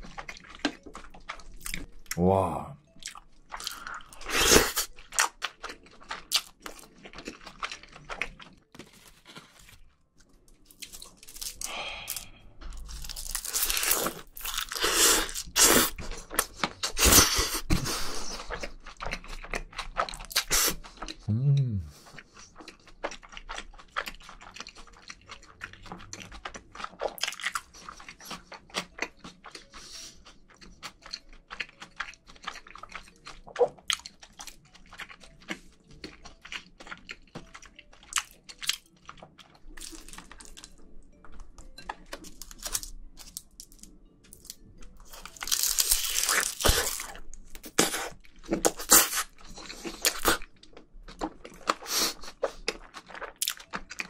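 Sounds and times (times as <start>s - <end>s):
wet chewing and crunching: 0.0s - 2.2s, 2.8s - 21.3s, 21.9s - 54.0s.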